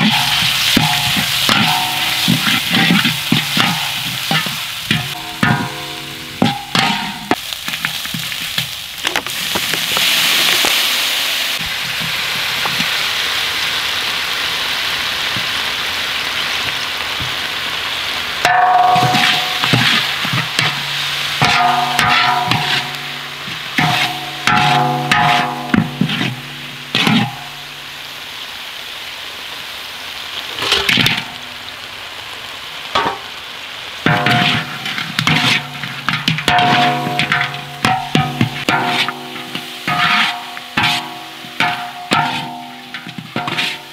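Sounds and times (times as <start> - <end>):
paste sizzling in a wok: 0.0 - 43.9.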